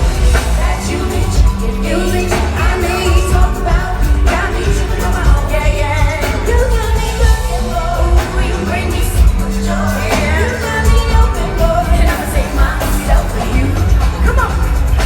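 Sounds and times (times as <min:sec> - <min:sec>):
bass-driven backing track: 0:00.0 - 0:15.0
person singing wordless vocals: 0:00.0 - 0:15.0.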